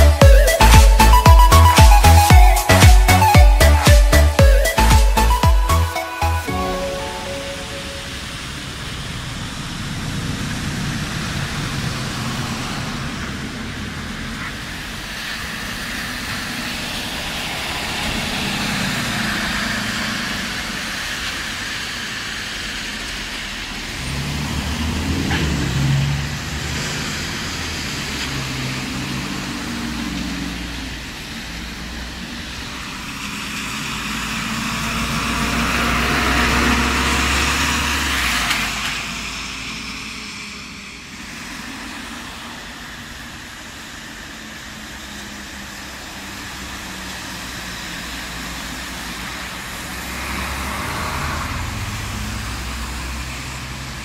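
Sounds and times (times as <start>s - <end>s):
bus engines rumbling: 0.0s - 54.0s
tyres hissing on wet road: 8.1s - 54.0s.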